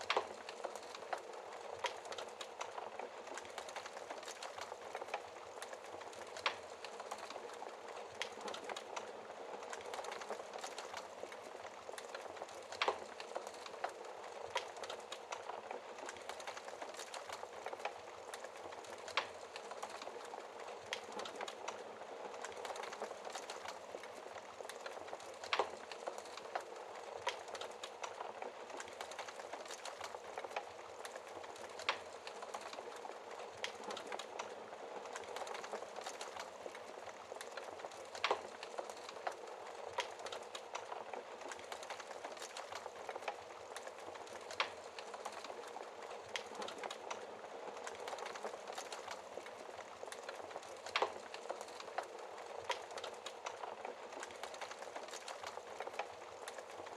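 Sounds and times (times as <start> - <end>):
fire pops: 0.0 - 56.8
wood fire crackling: 0.0 - 56.9.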